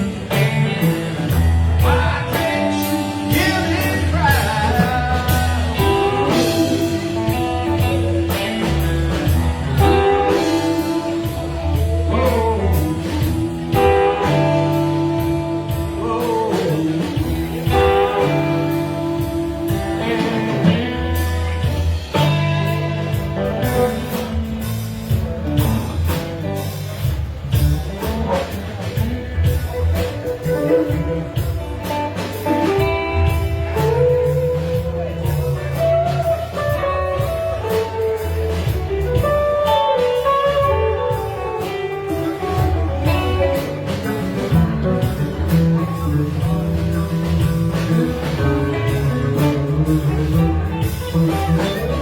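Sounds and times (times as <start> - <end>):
guitar lines: 0.0 - 52.0
live blues band playing: 0.0 - 52.0.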